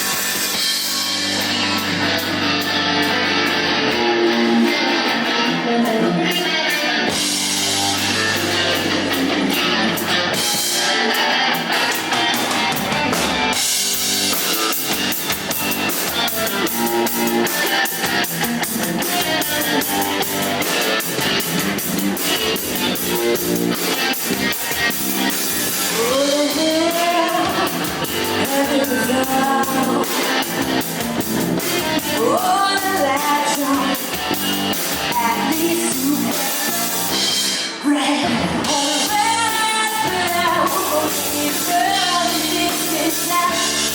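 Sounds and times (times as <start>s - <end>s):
drum kit beat: 0.0s - 37.8s, 38.5s - 43.9s
bass guitar: 0.0s - 43.9s
electric guitar: 0.0s - 43.9s.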